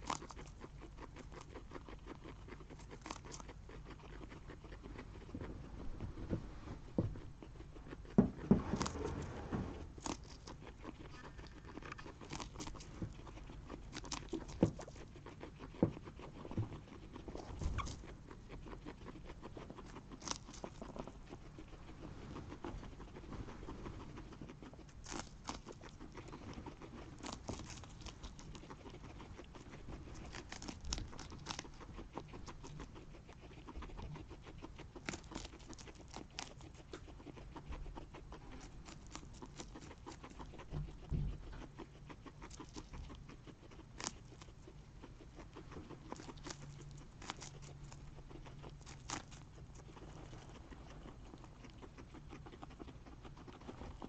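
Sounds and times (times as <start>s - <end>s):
guinea pigs gnawing corn: 0.0s - 54.0s.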